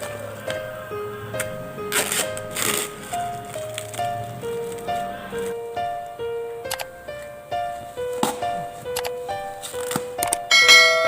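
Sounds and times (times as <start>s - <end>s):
melody of held notes: 0.0s - 11.0s.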